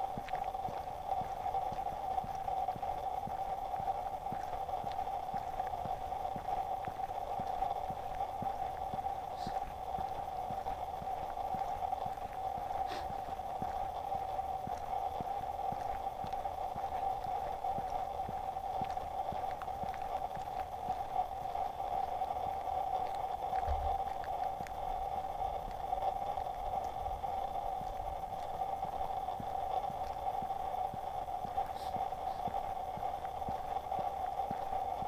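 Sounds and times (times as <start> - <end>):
vehicle moving slowly: 0.0 - 35.0.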